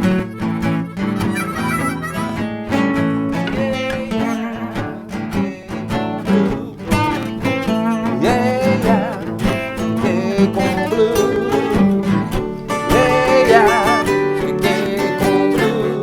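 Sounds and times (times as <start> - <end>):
bending blues lead line: 0.0 - 16.0
strummed acoustic guitar: 0.0 - 16.0.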